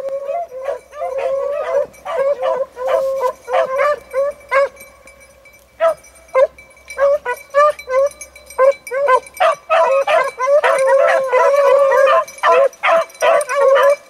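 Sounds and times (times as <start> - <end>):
dogs yelping: 0.0 - 5.1, 5.8 - 14.0
beagles baying: 0.0 - 14.0.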